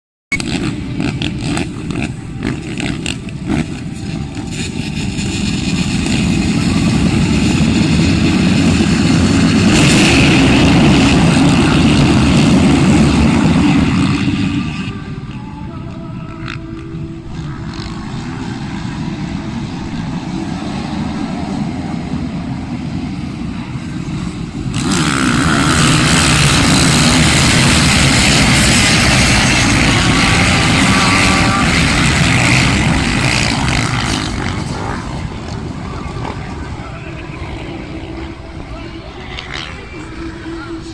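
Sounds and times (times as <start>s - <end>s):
motocross bikes revving: 0.3s - 15.0s, 16.2s - 40.9s
full-throttle motorbike engines: 0.3s - 40.9s.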